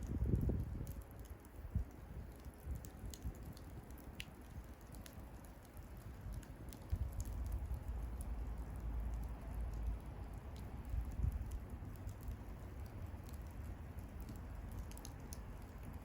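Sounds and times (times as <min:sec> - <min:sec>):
bonfire crackling: 0:00.0 - 0:16.0
low fire rumble: 0:00.0 - 0:16.0.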